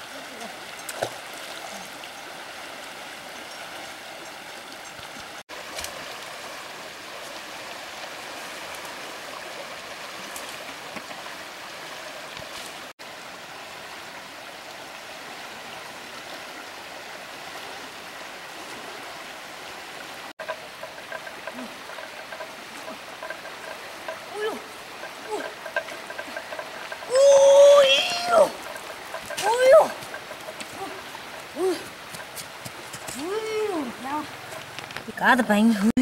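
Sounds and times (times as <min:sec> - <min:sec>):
fast-flowing river rushing: 0:00.0 - 0:36.0.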